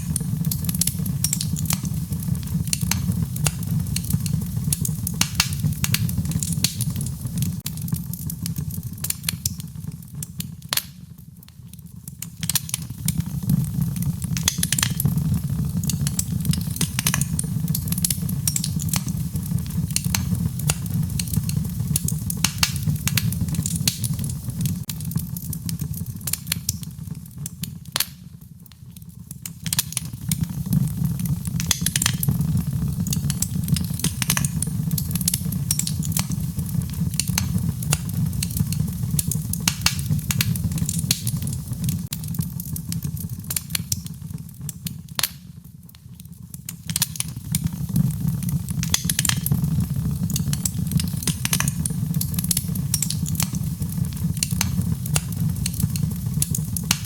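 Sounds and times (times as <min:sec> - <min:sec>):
wood fire crackling in fireplace: 0:00.0 - 0:57.0.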